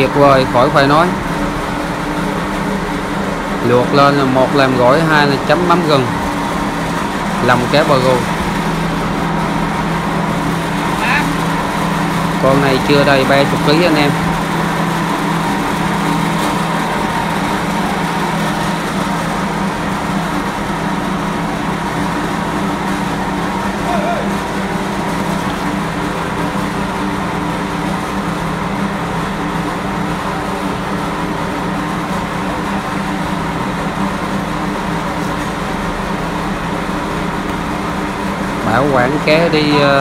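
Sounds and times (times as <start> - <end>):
engine idling: 0.0 - 40.0.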